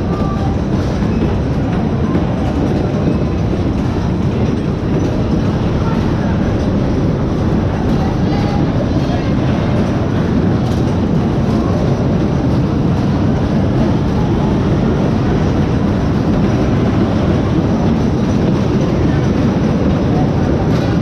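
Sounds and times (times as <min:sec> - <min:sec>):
fairground ride rumbling: 0:00.0 - 0:21.0.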